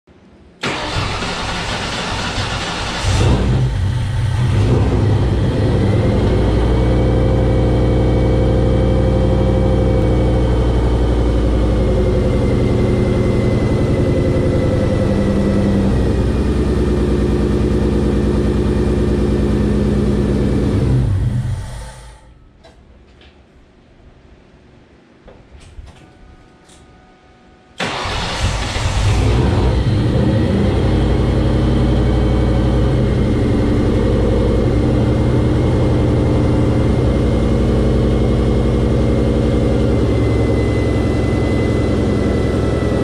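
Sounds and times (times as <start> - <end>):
car engine idling: 0.6 - 21.8, 27.8 - 43.0
high supercharger whine: 0.6 - 22.5, 27.8 - 43.0.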